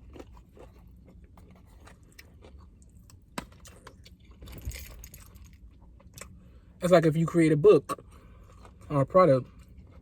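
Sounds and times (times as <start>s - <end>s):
person chewing food: 0.0s - 6.8s, 7.9s - 10.0s.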